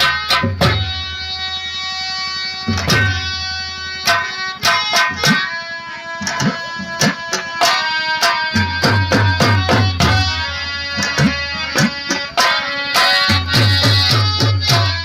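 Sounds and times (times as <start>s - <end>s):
hand drum strokes: 0.0s - 1.6s, 2.2s - 15.0s
held melody line: 0.0s - 15.0s.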